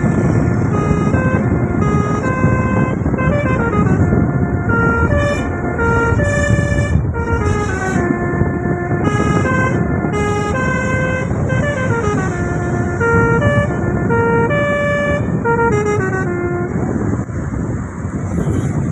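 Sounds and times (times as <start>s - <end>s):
musical bus air horn tune: 0.0s - 17.0s.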